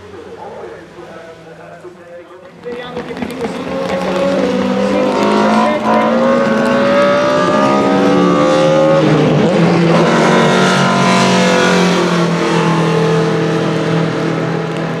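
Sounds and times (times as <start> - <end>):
race car engine revving: 2.5 - 15.0.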